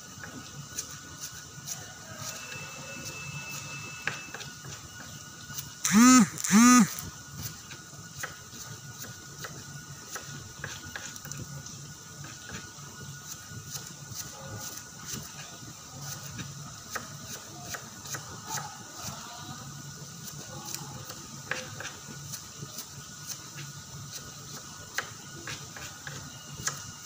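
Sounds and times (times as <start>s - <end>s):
shallots deep-frying in oil: 0.0s - 5.9s, 7.0s - 27.0s.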